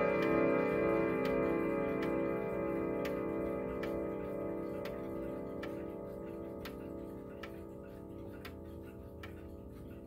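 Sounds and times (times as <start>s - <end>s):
clock chime rods ringing: 0.0s - 10.0s
clock ticking: 0.0s - 10.0s.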